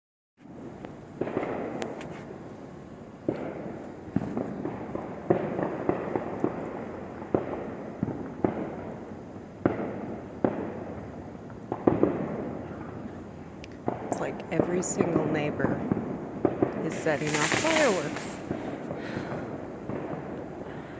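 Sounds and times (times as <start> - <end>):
fireworks crackle: 0.4 - 20.9
fireworks bangs echoing: 0.5 - 20.9.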